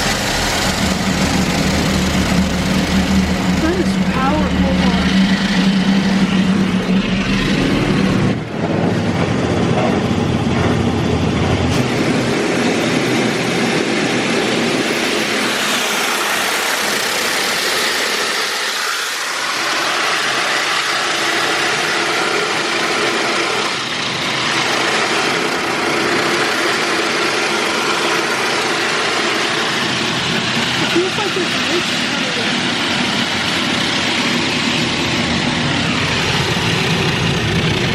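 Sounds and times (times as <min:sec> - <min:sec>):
high-pressure water jets spraying car: 0:00.0 - 0:08.4, 0:11.7 - 0:37.9.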